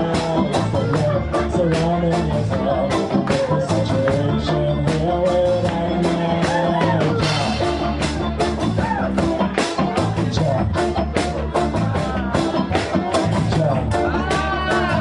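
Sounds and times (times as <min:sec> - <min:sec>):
reggae band playing: 0:00.0 - 0:15.0.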